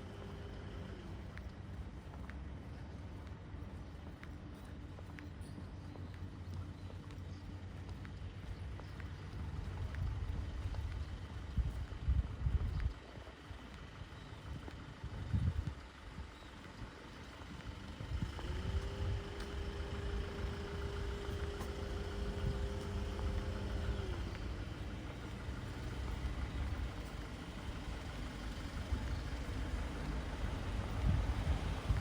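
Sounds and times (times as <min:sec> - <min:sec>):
vehicle engine rumbling: 0:00.0 - 0:32.0.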